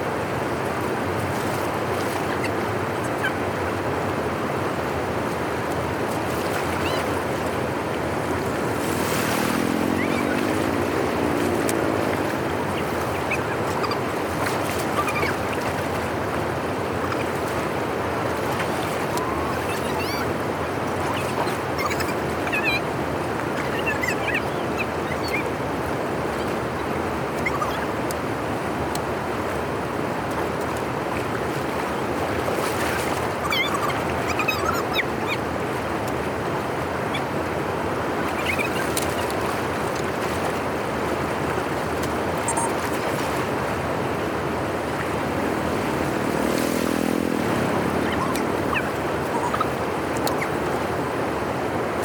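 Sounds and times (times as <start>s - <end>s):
water rushing through outlet: 0.0s - 52.0s.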